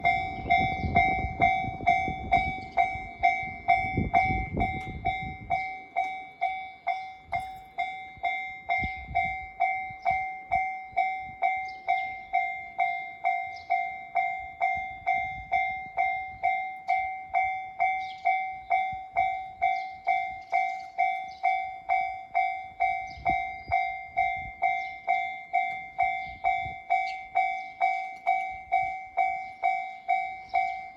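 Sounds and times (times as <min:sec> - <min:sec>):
level crossing warning bell ringing: 0:00.0 - 0:30.9.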